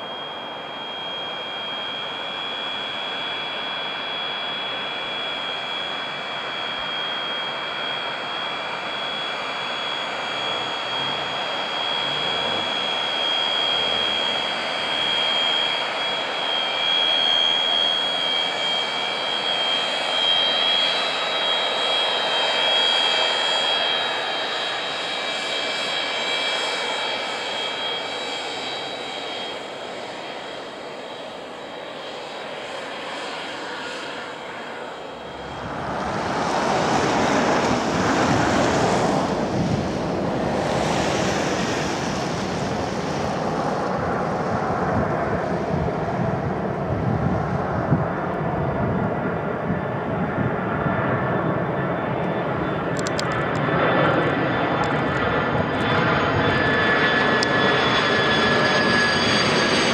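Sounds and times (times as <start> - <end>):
jet aircraft rumble on approach: 0.0 - 59.9
turbofan engines whining: 0.0 - 59.9.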